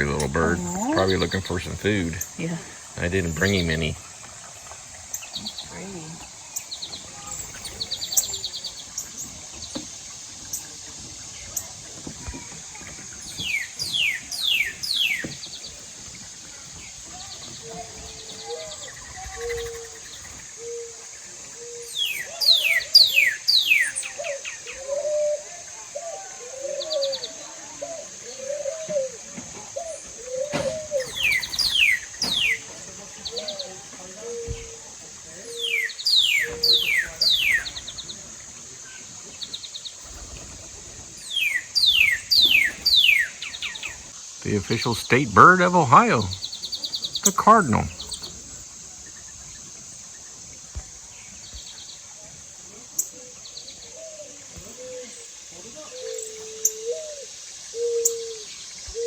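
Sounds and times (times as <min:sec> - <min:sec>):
doves cooing: 0:00.0 - 0:49.3, 0:53.1 - 0:59.0
songbirds chirping: 0:00.0 - 0:59.0.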